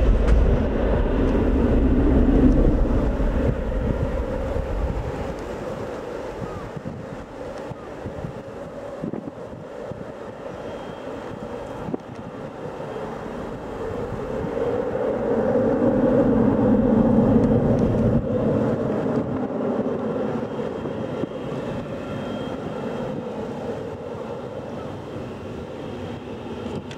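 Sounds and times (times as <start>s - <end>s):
airliner jet engines rumbling: 0.0s - 26.9s.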